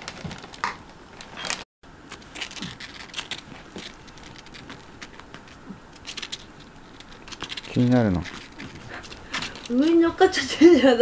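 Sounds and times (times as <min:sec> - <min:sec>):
ferret scratching fabric bag: 0:01.4 - 0:10.4.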